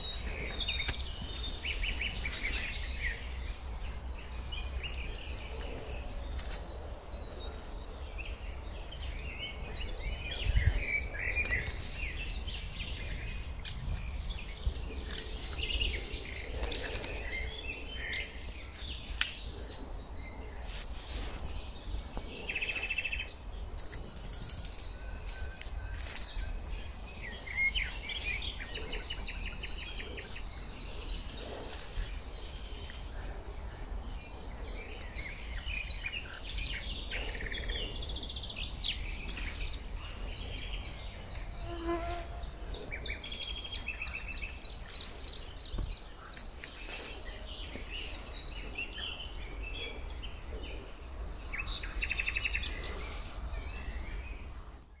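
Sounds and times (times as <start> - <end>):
songbirds singing and calling: 0.0 - 55.0.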